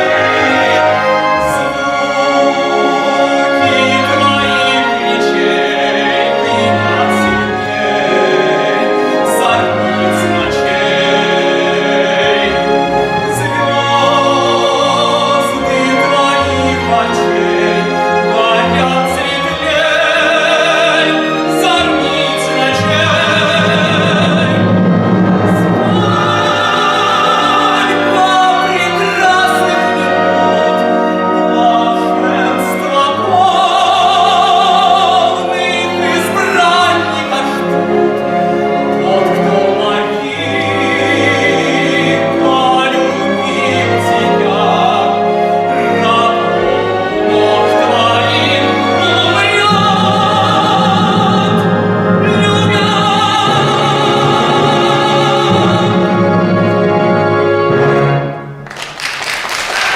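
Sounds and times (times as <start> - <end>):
instrumental accompaniment: 0.0 - 59.9
person singing operatically: 1.2 - 24.8, 25.5 - 56.4.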